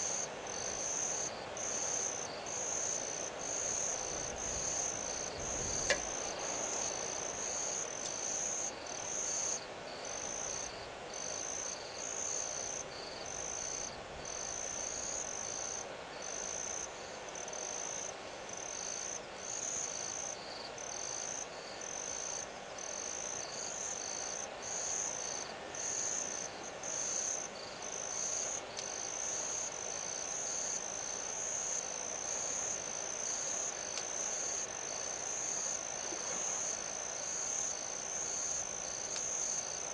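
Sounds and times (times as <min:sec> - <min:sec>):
faint steady hiss: 0:00.0 - 0:39.9
night insects chirping: 0:00.0 - 0:39.9.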